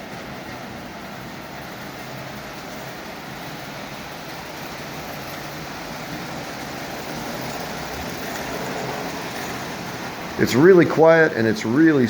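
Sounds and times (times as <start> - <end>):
toy train rolling on track: 0.0 - 12.0.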